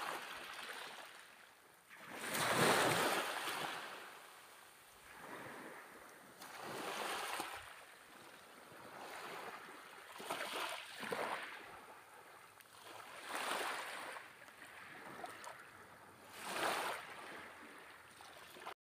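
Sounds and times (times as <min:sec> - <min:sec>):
small waves washing onto beach: 0:00.0 - 0:18.8.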